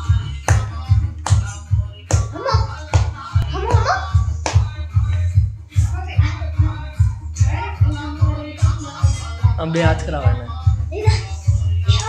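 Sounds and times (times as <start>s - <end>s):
song with heavy bass beat: 0.0s - 12.0s.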